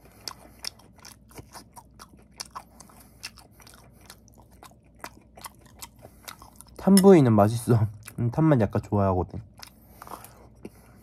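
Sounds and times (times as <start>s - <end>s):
chewing crunchy food: 0.0s - 8.3s, 9.3s - 11.0s.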